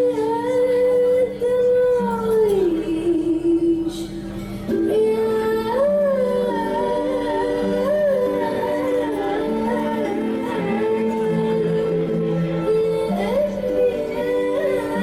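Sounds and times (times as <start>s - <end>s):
slow sung song: 0.0s - 15.0s.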